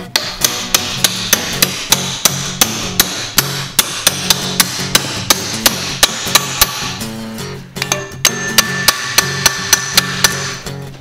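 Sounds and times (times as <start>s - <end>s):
metallic hammer-like beat: 0.0s - 10.8s.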